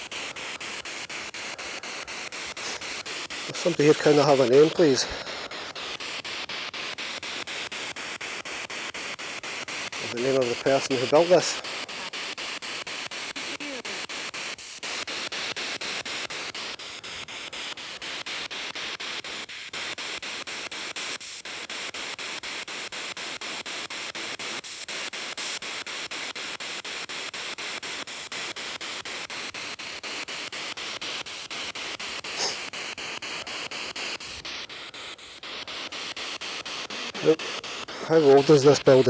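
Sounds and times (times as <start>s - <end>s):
fast regular clicks: 0.0s - 39.0s
radio static hiss: 0.0s - 39.0s.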